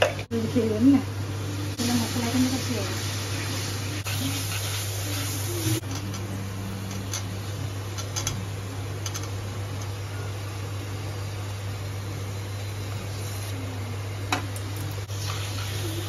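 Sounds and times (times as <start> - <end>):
steady low hum: 0.0 - 16.0
food sizzling in a pan: 0.4 - 16.0.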